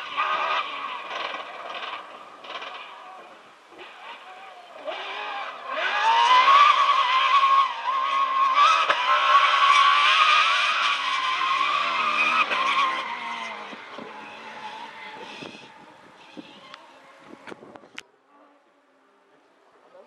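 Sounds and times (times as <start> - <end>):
rally car engine at high revs: 0.0 - 17.5.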